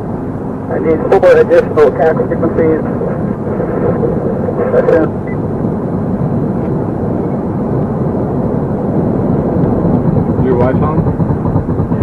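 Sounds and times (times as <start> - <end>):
vehicle running: 0.0 - 12.0.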